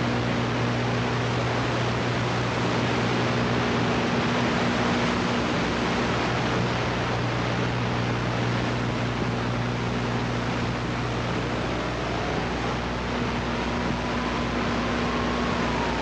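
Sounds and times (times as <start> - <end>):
low mains hum: 0.0 - 16.0
tape hiss: 0.0 - 16.0.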